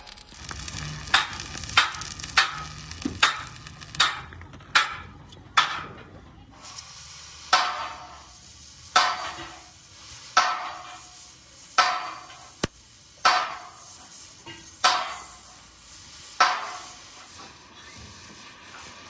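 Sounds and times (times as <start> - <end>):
sharp welding spits: 0.0 - 5.0, 6.5 - 19.0
welding arc crackling and sizzling: 0.0 - 5.0, 6.5 - 19.0.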